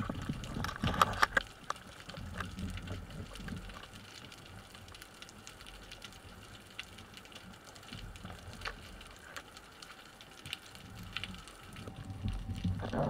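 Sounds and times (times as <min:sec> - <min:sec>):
underwater clicks crackling: 0:00.0 - 0:13.0.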